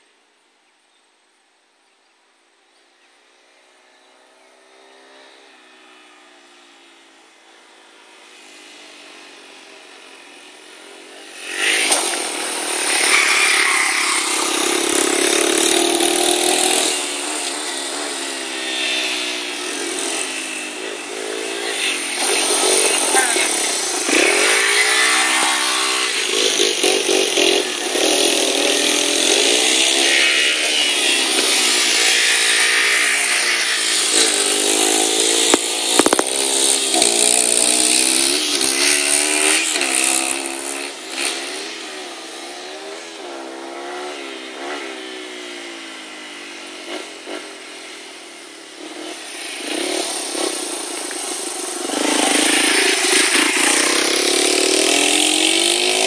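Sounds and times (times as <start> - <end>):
dirt bike engines revving: 3.4 - 56.0.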